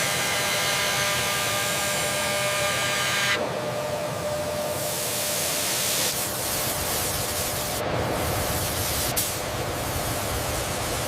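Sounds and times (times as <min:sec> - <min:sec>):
spray-like machinery hiss: 0:00.0 - 0:11.0.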